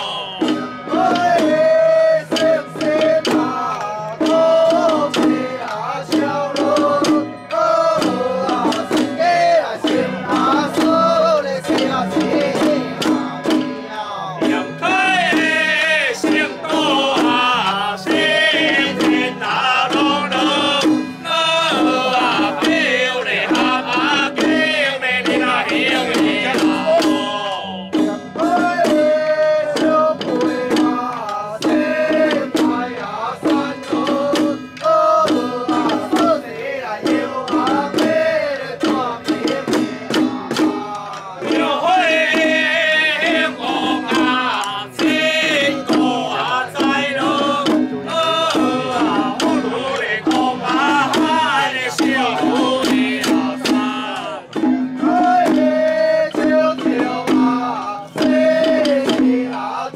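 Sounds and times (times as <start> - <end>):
fast drum and gong strikes: 0.0 - 59.9.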